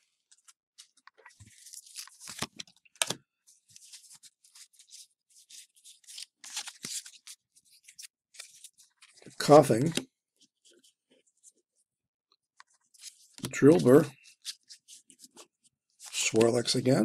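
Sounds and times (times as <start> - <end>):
cards being flipped by hand: 0.3 - 10.0, 12.6 - 16.8.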